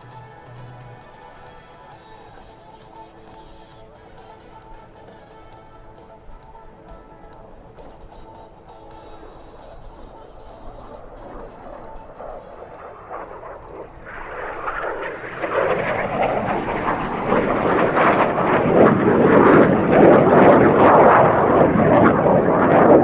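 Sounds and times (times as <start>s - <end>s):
jet roar on a flypast: 0.0s - 23.0s.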